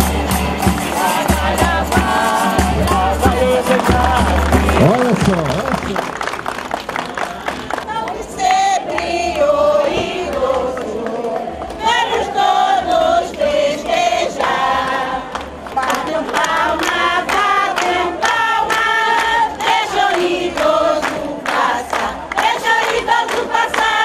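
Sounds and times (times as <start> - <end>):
group of voices singing: 0.0 - 4.9, 7.9 - 24.0.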